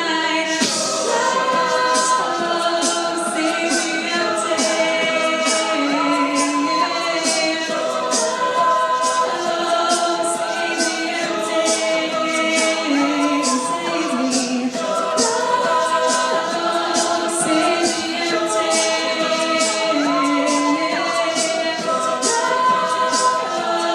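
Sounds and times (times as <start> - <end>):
a cappella group singing: 0.0 - 23.9
beatboxed vocal percussion: 0.0 - 23.9.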